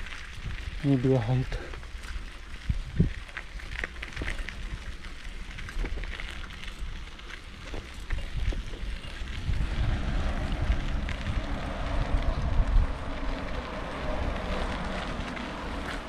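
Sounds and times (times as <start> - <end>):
wind buffeting microphone: 0.0 - 6.1, 6.7 - 16.0.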